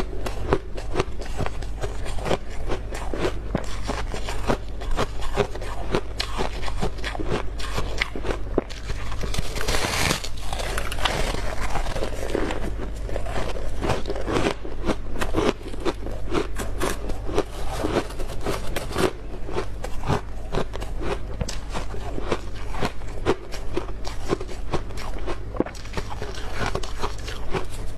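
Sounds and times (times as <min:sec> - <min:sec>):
frost crunching while chewed: 0:00.0 - 0:27.9
steady low hum: 0:00.0 - 0:27.9.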